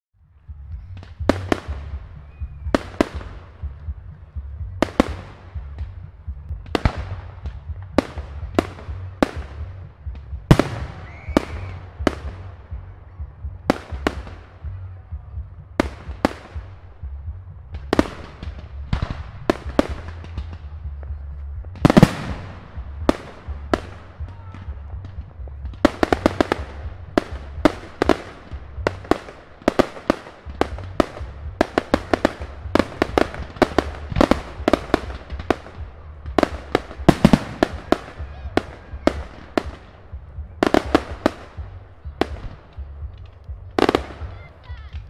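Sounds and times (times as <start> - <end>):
low rumble: 0.2 - 45.0
fireworks bangs echoing: 0.9 - 45.0.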